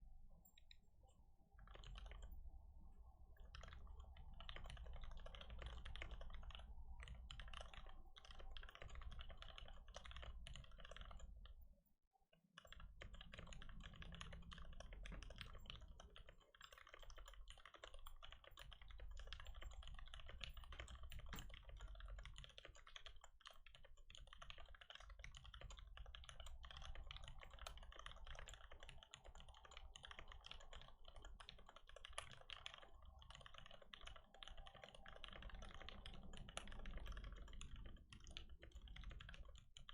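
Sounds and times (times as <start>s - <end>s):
fast typing on keyboard: 1.6s - 2.5s, 3.3s - 11.6s, 12.6s - 39.9s.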